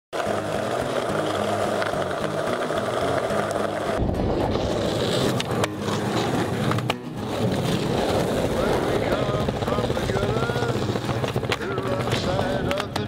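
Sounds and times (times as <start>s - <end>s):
skateboard rolling on asphalt: 0.1s - 13.0s
skateboard clacks: 0.2s - 4.0s, 4.7s - 13.0s.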